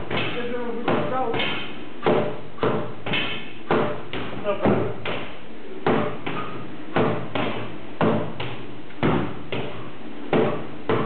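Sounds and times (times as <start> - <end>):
heavy blows on tyres: 0.0 - 11.0.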